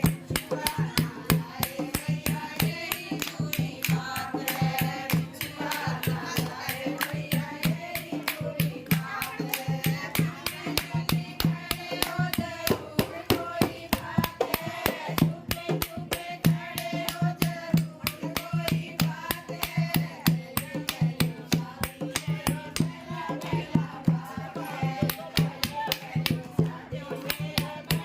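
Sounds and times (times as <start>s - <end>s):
jingling percussion beat: 0.0s - 28.0s.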